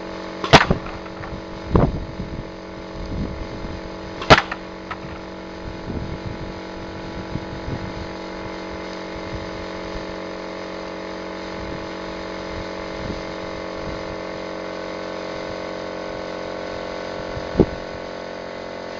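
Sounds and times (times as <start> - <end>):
electric motor hum: 0.0 - 18.9.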